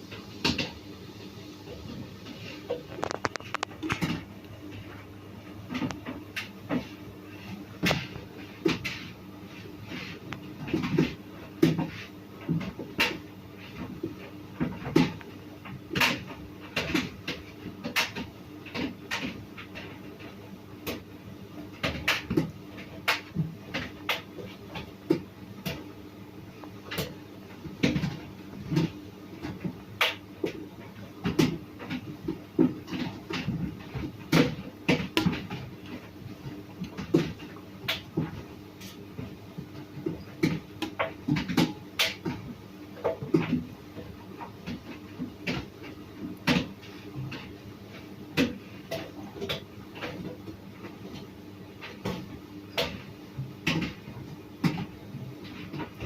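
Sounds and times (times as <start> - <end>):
knocks and clatters from dryer drum: 0.0 - 0.8, 1.7 - 56.0.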